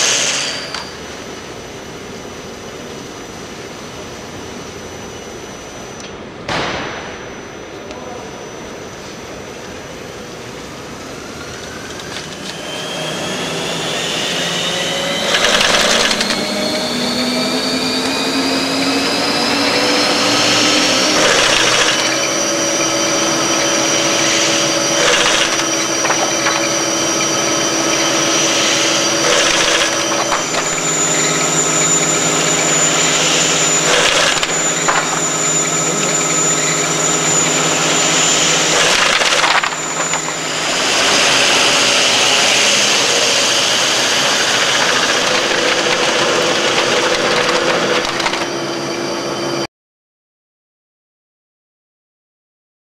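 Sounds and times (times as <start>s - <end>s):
machine drive whine: 0.0s - 49.7s.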